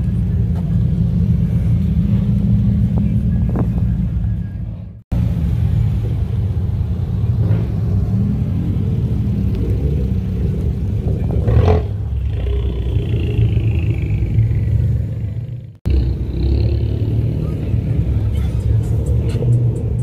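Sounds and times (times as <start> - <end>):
car engines rumbling by: 0.0 - 20.0.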